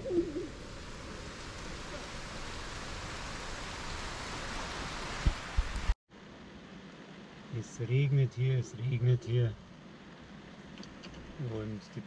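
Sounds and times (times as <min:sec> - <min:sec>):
heavy rain hissing: 0:00.0 - 0:10.6.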